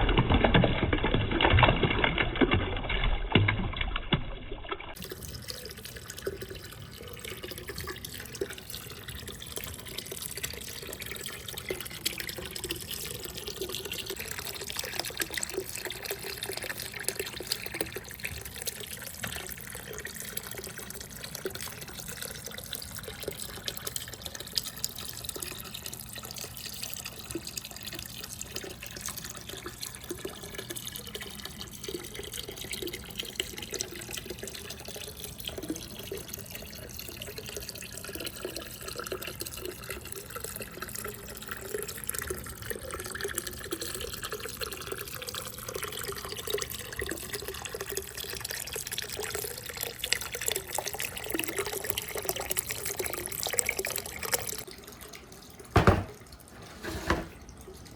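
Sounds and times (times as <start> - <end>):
water running and gurgling: 0.0 - 57.9.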